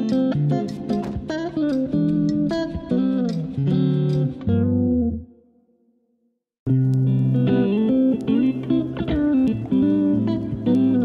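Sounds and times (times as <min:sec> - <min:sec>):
plucked guitar music: 0:00.0 - 0:05.4, 0:06.7 - 0:11.0.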